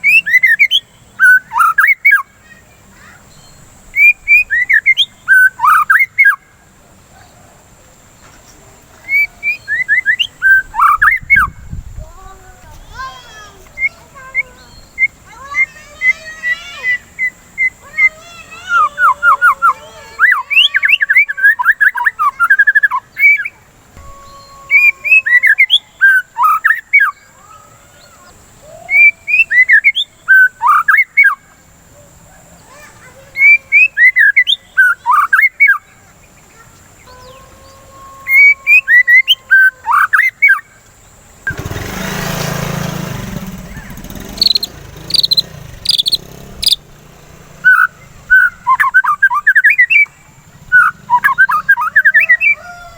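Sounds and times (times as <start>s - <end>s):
bird singing whistles and trills: 0.0s - 6.5s, 9.0s - 11.8s, 13.8s - 31.5s, 33.0s - 40.8s, 43.7s - 47.0s, 47.6s - 52.7s.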